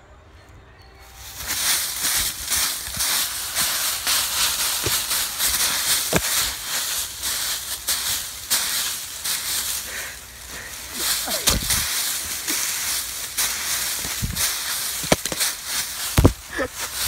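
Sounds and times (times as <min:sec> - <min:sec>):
dry leaves rustling and crunching: 0:01.0 - 0:17.0.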